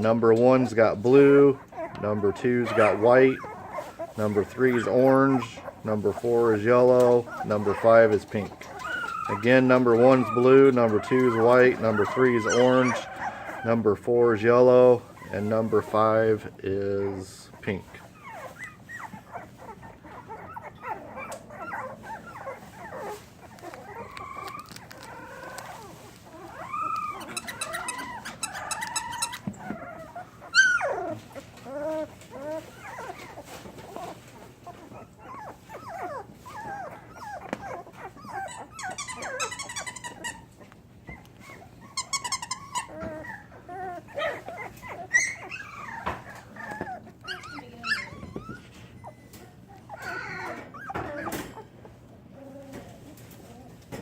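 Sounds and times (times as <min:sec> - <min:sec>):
puppies whimpering and squealing: 0:00.0 - 0:54.0.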